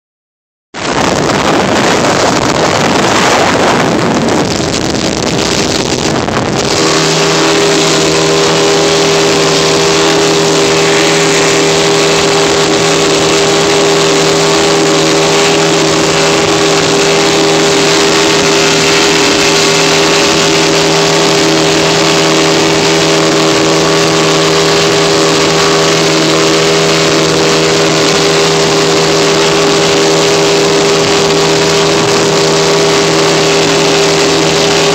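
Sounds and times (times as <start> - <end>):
boat engine droning: 0.8 - 34.9
rush of wind and water: 0.8 - 34.9.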